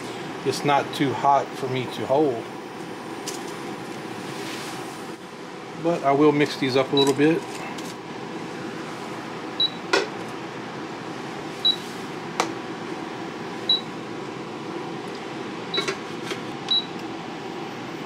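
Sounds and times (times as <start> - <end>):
fan whir: 0.0 - 18.0.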